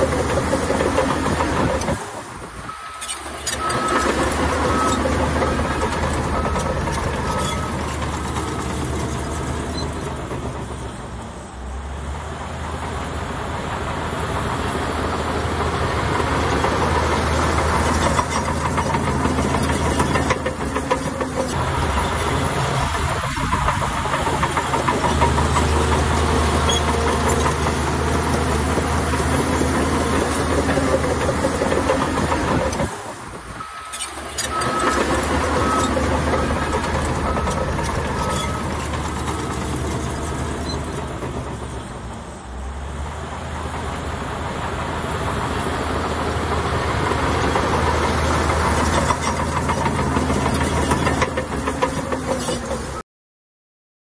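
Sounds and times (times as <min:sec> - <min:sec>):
heavy diesel machinery running: 0:00.0 - 0:53.0.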